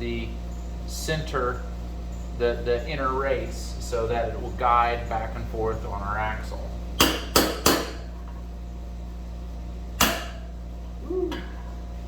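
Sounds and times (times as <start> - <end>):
air conditioner hum: 0.0 - 12.0.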